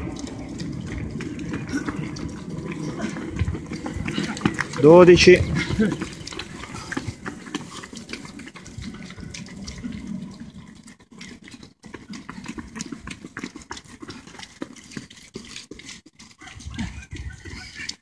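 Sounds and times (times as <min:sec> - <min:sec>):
running footsteps on pavement: 0:00.0 - 0:18.0.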